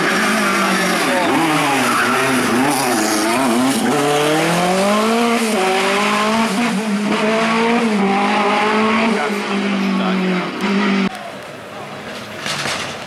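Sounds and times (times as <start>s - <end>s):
car engine accelerating hard: 0.0s - 11.1s.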